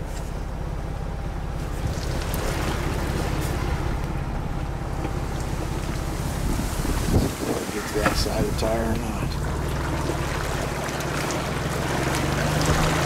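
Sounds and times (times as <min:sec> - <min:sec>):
engine droning low: 0:00.0 - 0:13.0
water sloshing around wheel: 0:01.0 - 0:13.0.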